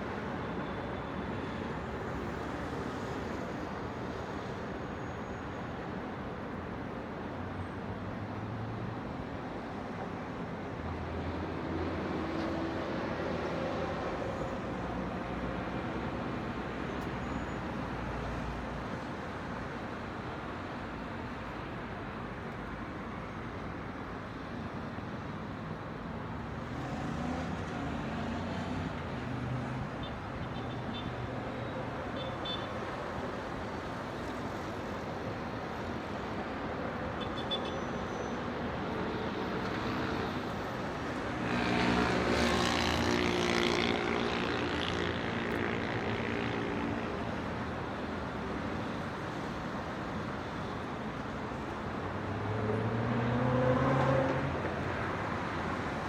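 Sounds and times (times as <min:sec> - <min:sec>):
road traffic hum: 0:06.1 - 0:56.0.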